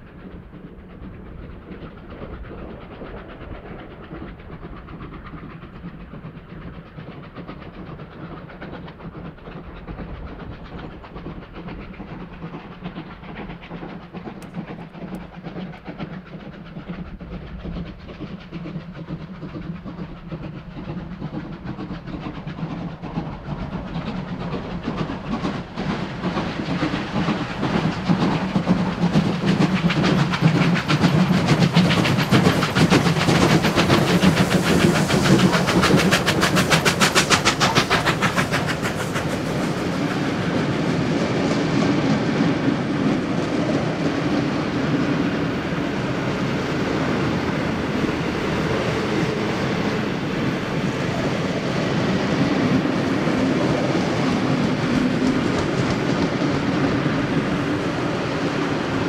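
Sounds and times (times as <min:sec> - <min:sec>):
steam locomotive chuffing: 0:00.0 - 0:59.0
train carriages rumbling and clattering: 0:00.0 - 0:59.0.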